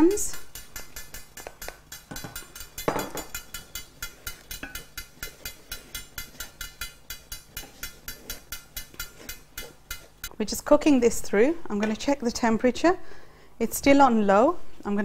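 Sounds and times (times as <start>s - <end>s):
wooden spoon scraping metal pan: 0.0s - 12.2s.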